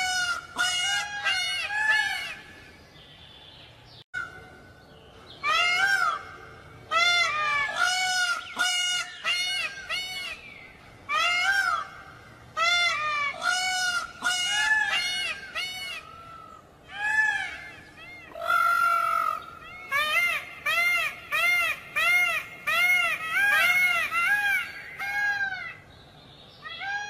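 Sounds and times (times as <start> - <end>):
peacocks honking calls: 0.0 - 2.6, 5.4 - 25.9.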